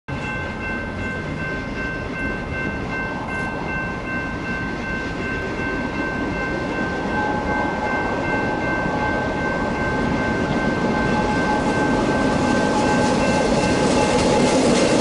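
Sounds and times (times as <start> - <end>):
distant freight train rumble: 0.1 - 15.0
steady high-pitched tone: 0.1 - 15.0.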